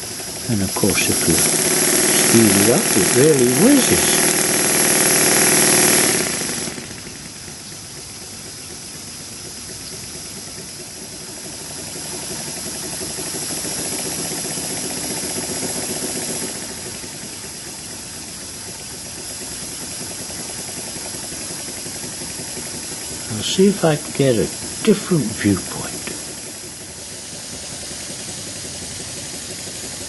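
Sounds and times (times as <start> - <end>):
air hissing: 0.0 - 9.3, 10.1 - 30.0
rapid beat of engine valve gear: 0.0 - 30.0.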